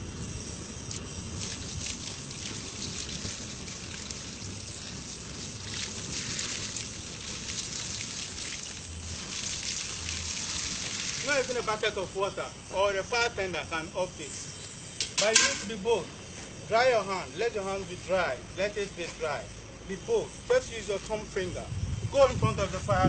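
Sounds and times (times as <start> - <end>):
gas flame hissing and crackling: 0.0 - 23.0.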